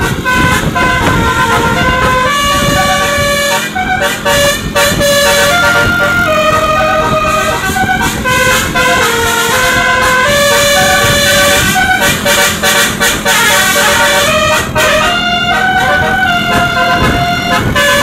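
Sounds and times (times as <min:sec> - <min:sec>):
multi-tone air horn melody: 0:00.0 - 0:18.0.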